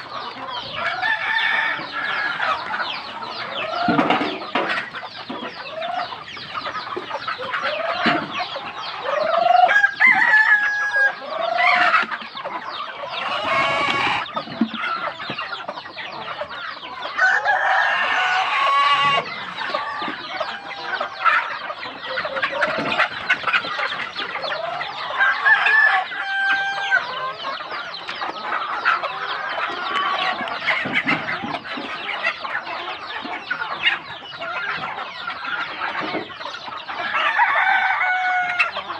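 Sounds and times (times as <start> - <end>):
chickens clucking: 0.0 - 38.9
roosters crowing: 0.0 - 38.9.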